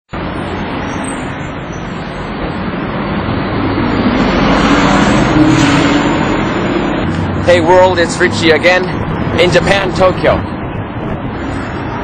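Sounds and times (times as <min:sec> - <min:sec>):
vehicles passing: 0:00.1 - 0:12.0.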